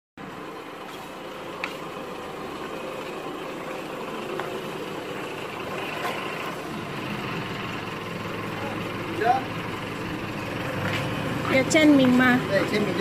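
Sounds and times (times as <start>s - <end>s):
truck engine idling: 0.2s - 13.0s.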